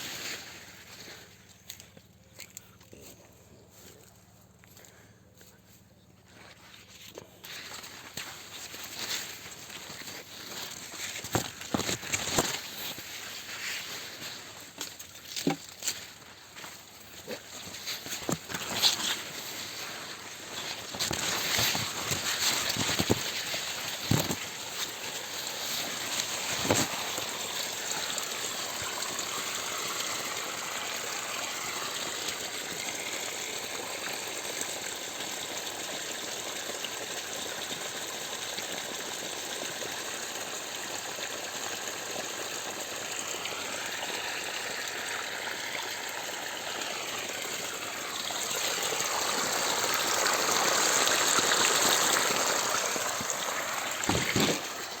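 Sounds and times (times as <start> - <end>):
water gushing: 0.0 - 0.9, 7.4 - 55.0.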